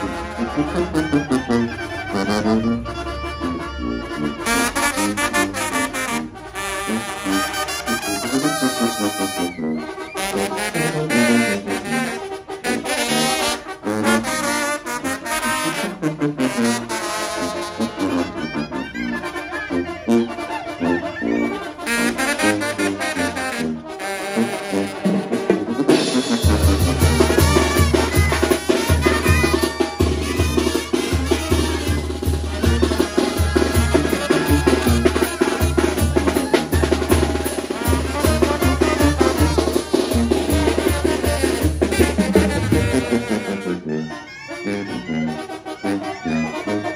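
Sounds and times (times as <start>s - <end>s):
bass drum and tuba beat: 0.0s - 46.9s
trumpets and trombones: 0.0s - 46.9s.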